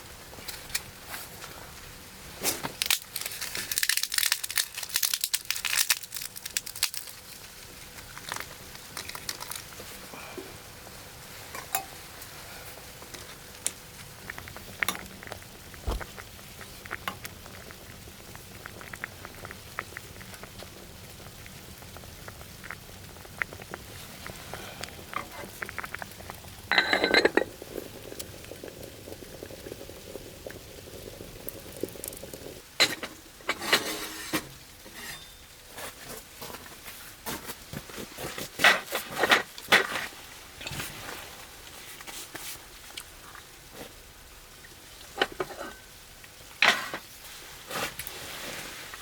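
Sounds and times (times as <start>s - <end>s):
liquid bubbling in a pot: 0.0s - 49.0s.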